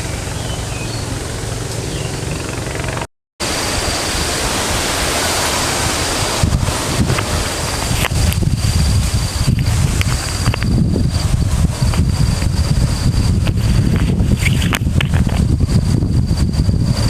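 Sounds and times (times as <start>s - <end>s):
wind gusts buffeting microphone: 0.0s - 17.0s
wind rushing: 0.0s - 17.0s.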